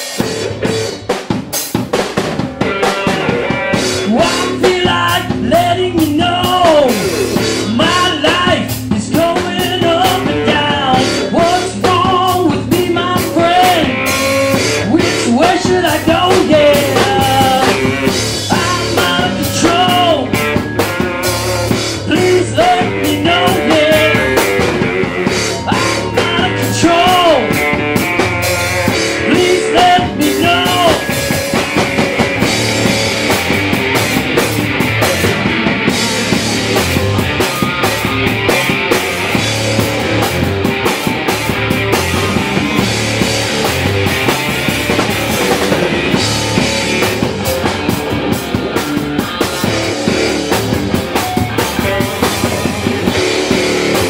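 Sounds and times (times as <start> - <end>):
live rock band playing: 0.0 - 54.0
pitch-bending guitar melody: 0.0 - 54.0.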